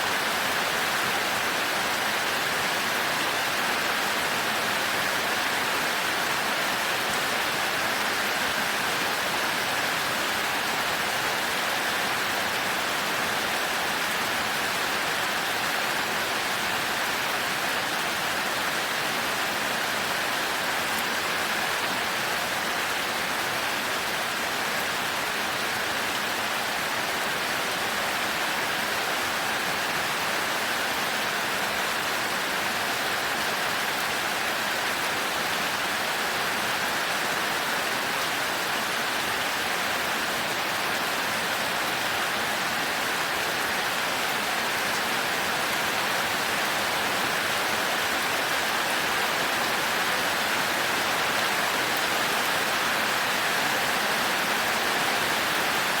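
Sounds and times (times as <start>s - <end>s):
heavy rain on a thatched roof: 0.0s - 56.0s.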